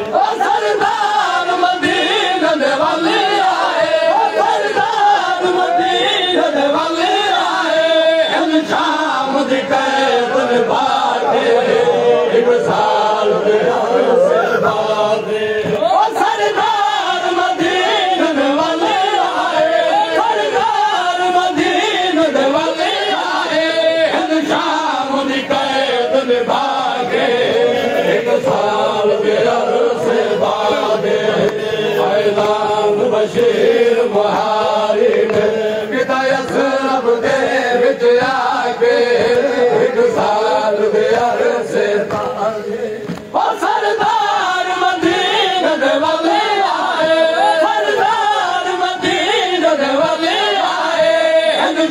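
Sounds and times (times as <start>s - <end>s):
men chanting a lament: 0.0s - 51.9s.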